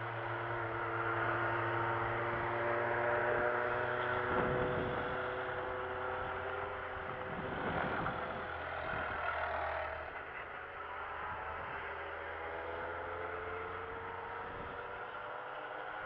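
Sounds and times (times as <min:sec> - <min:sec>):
distant car engines running: 0:00.0 - 0:16.0.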